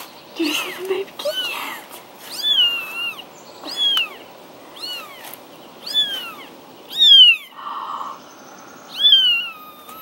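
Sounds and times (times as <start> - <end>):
kitten mewing: 1.3 - 8.2, 8.9 - 10.0.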